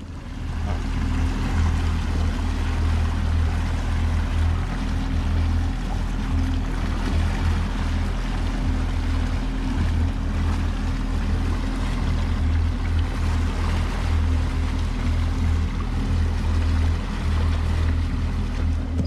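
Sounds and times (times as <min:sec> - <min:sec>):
boat engine idling: 0:00.0 - 0:19.0
water noise: 0:00.0 - 0:19.0
wind: 0:00.0 - 0:19.0.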